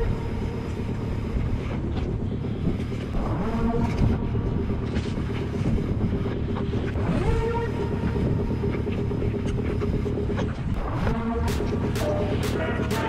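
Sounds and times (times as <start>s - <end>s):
buzzing tone: 0.0s - 13.0s.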